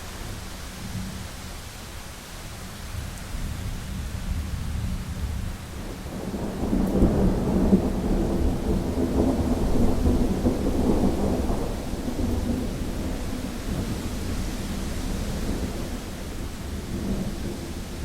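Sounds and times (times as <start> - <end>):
steady rain: 0.0 - 18.0
rolling thunder: 2.9 - 18.0.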